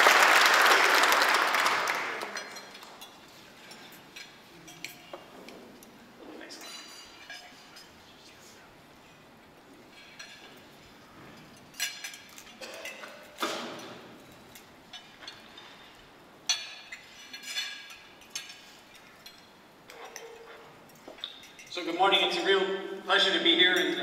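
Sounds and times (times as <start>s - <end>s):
cutlery and glassware clinking: 2.1s - 8.0s, 9.0s - 24.0s.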